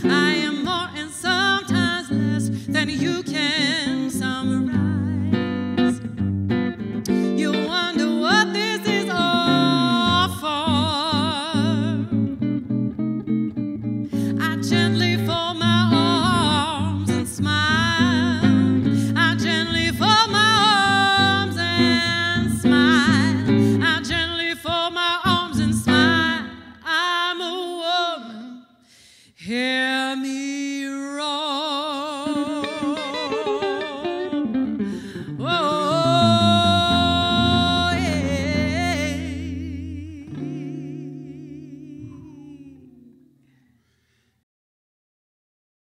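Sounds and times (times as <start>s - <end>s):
woman singing with vibrato: 0.0s - 6.2s, 7.1s - 12.3s, 14.1s - 28.8s, 29.4s - 43.5s.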